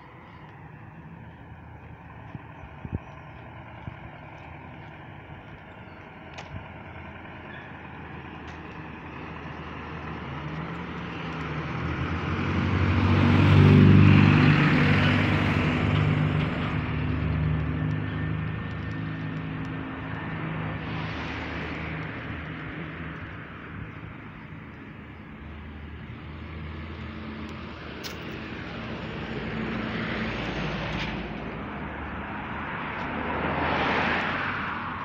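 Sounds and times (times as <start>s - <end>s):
bus passing close by: 0.0s - 35.0s
quiet street background: 0.0s - 35.0s.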